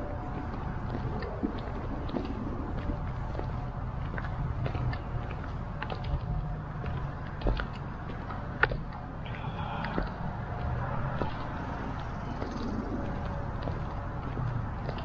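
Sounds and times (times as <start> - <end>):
footsteps on paved path: 0.0 - 15.0.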